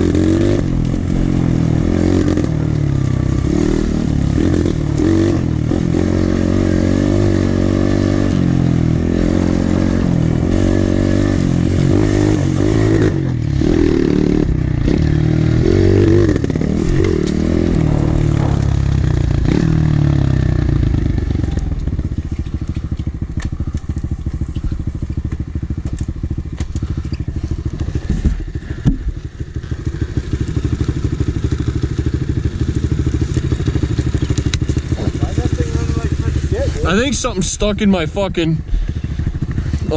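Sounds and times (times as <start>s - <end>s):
small motorcycle engine revving: 0.0s - 37.2s.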